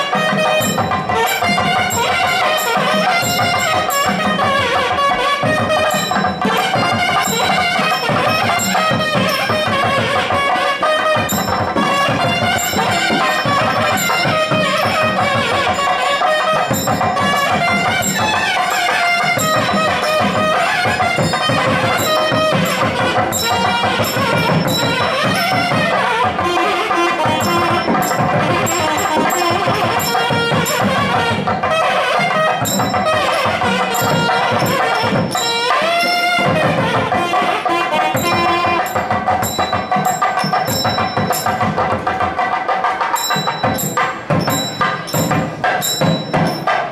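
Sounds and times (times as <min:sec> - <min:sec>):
double reed horn melody: 0:00.0 - 0:40.6
drum strokes: 0:00.0 - 0:46.9.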